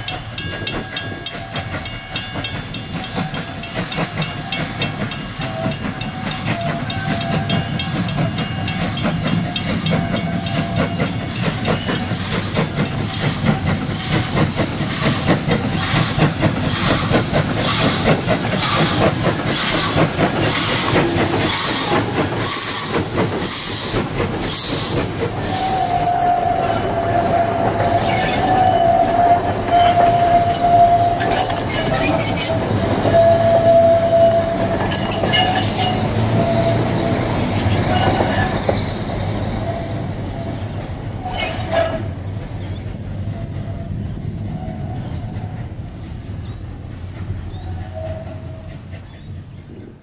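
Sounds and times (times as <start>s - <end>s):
train wheels clacking over rail joints: 0.0s - 39.5s, 40.2s - 50.0s
train wheels squealing: 0.0s - 49.7s.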